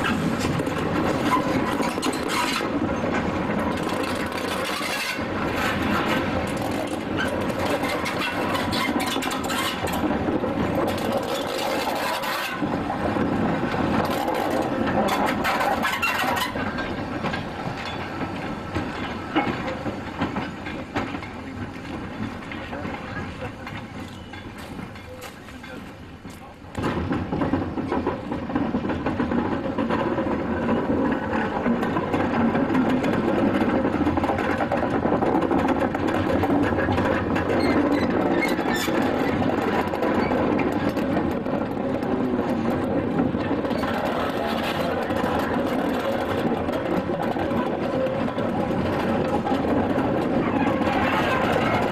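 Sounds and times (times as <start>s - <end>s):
clanking and knocking of wheels: 0.0s - 51.9s
steam locomotives rolling on rails: 0.0s - 51.9s.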